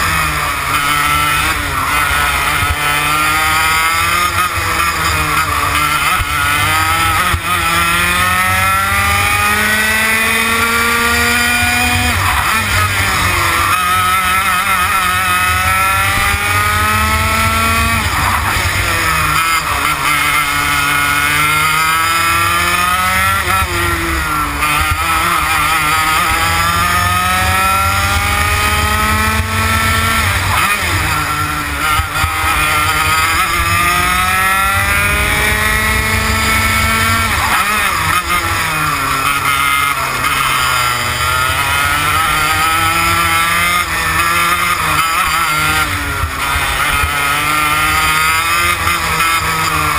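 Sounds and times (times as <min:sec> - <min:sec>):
kart engine accelerating: 0:00.0 - 0:49.9.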